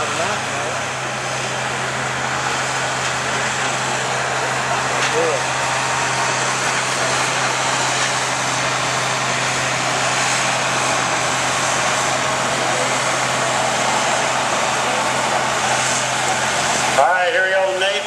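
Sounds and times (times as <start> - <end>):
tractor engine at full throttle: 0.0 - 18.0.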